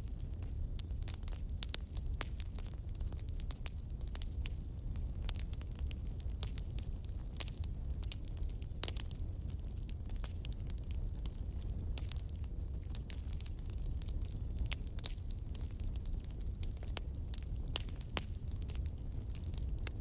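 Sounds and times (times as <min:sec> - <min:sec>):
crackles and pops of frying: 0:00.0 - 0:20.0.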